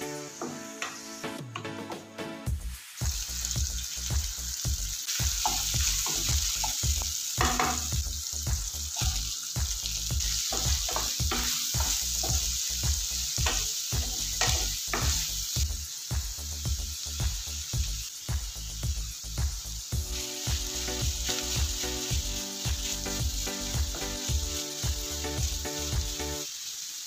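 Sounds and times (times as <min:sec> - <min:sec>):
chicken sizzling in oil: 0:00.0 - 0:01.4, 0:02.5 - 0:27.0.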